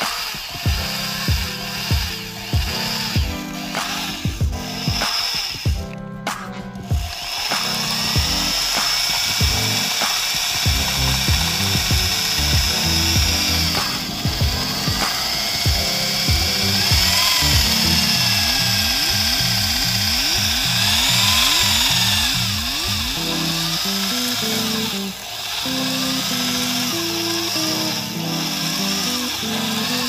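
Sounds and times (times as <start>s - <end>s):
electric drill whining: 0.0s - 6.0s, 6.8s - 30.0s
music: 0.0s - 30.0s.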